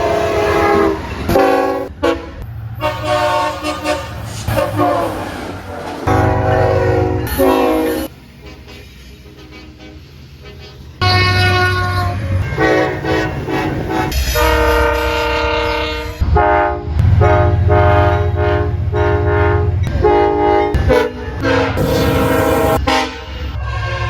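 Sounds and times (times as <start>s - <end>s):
low locomotive rumble: 0.0s - 24.0s
train horn blasts: 0.0s - 24.0s.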